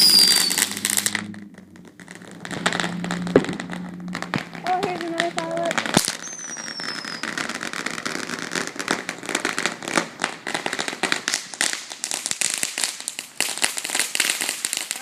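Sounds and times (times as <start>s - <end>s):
firework crackling: 0.0s - 15.0s.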